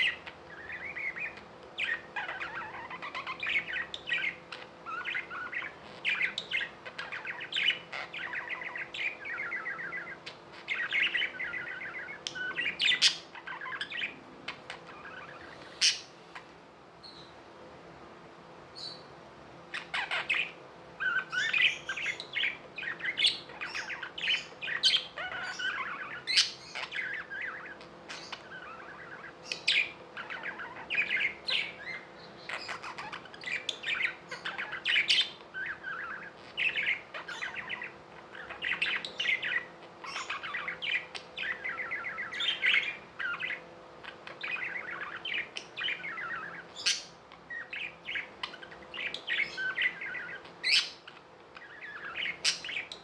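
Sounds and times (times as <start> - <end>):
budgerigars chirping: 0.0 - 17.4, 19.7 - 53.0
faint steady hum: 0.0 - 53.0.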